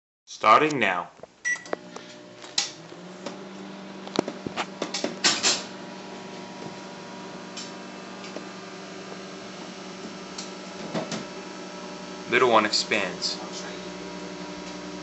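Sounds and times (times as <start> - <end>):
microwave oven humming: 1.4 - 15.0.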